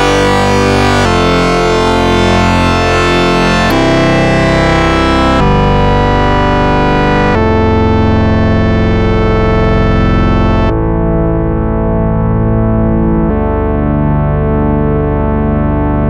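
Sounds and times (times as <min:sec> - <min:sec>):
synthesized chord tones: 0:00.0 - 0:16.0.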